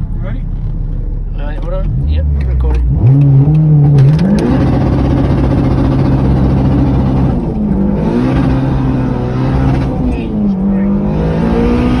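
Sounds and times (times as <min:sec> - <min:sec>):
car engine running under load: 0:00.0 - 0:12.0.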